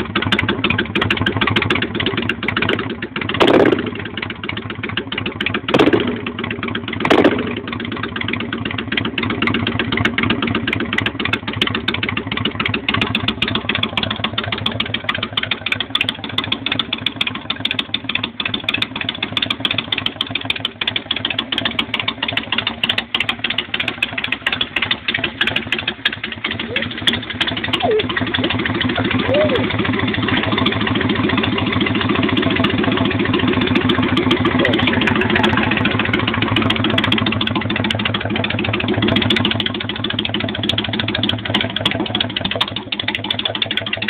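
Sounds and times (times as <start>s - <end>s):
motorcycle engine revving and idling: 0.0s - 44.0s.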